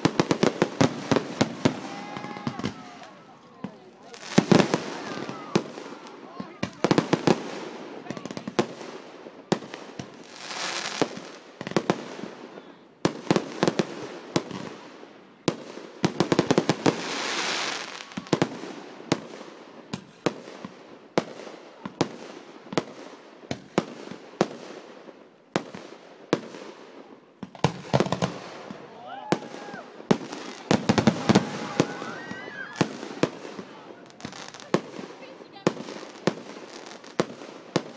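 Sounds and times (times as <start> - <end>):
hissing crackle of fireworks: 0.0 - 37.9.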